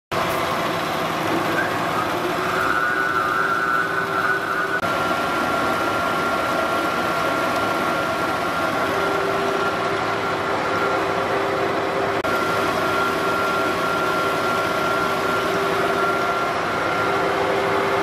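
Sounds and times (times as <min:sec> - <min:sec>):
milling machine motor hum: 0:00.2 - 0:18.0
thin high whine: 0:01.3 - 0:18.0.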